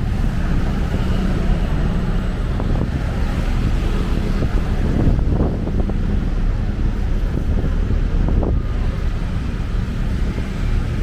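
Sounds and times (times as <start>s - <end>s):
low traffic rumble: 0.0s - 11.0s
wind buffeting microphone: 0.0s - 11.0s.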